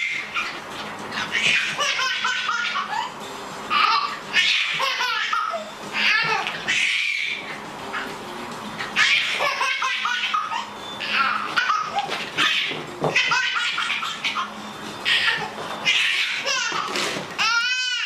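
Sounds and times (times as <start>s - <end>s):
baby laughing: 0.0s - 8.1s, 8.9s - 18.0s.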